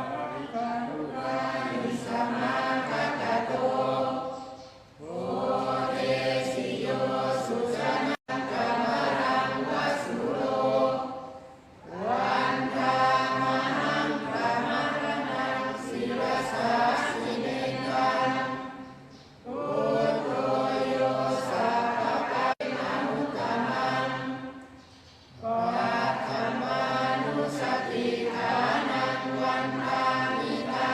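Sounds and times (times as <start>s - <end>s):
voices chanting in unison: 0.0s - 30.9s.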